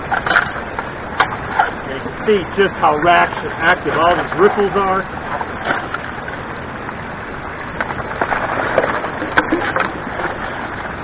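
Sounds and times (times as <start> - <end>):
water rushing off sluice: 0.0 - 11.0.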